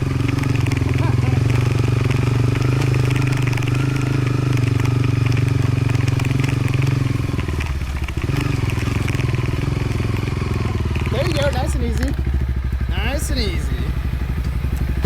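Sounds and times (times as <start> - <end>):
bike rattling: 0.0 - 15.0
gravel crunching: 0.0 - 15.0
motorcycle engine running: 0.0 - 15.0.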